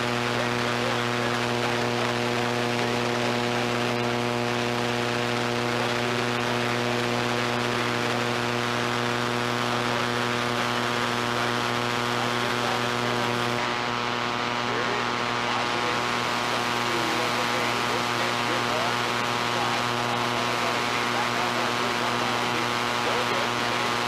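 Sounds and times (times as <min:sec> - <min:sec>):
electrical mains hum: 0:00.0 - 0:24.0
faint voices: 0:00.0 - 0:24.0
tape hiss: 0:00.0 - 0:24.0.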